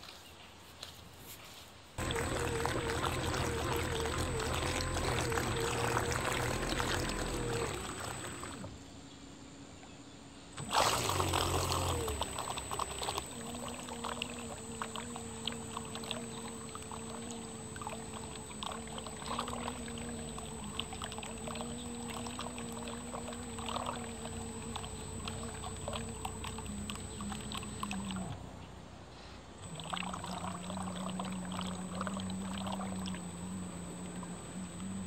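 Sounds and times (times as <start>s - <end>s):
water splashing at hull: 2.0s - 8.8s, 10.6s - 28.5s, 29.6s - 35.0s
motor hum: 2.0s - 35.0s.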